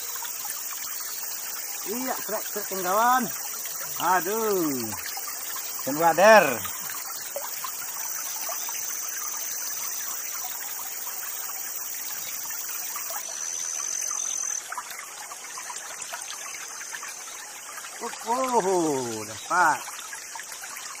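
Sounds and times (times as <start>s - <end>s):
forest stream trickling: 0.0s - 21.0s.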